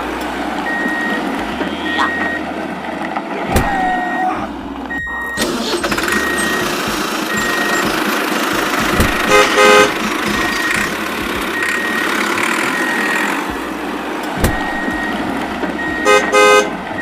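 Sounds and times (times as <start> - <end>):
engine running: 0.0 - 17.0
horn toots: 0.7 - 2.6, 3.3 - 13.8, 14.4 - 17.0.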